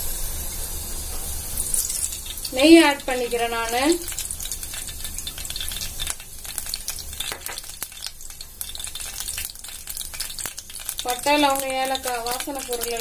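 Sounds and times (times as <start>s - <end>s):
ghee sizzling with crackles and pops: 0.0s - 13.0s.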